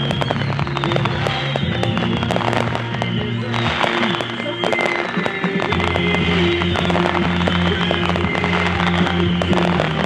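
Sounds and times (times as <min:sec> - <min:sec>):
fireworks popping and crackling: 0:00.0 - 0:10.0
music with held notes: 0:00.0 - 0:10.0.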